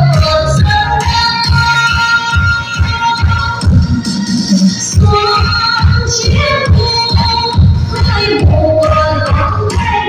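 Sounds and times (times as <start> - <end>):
dance music with bass beat: 0.0 - 10.0.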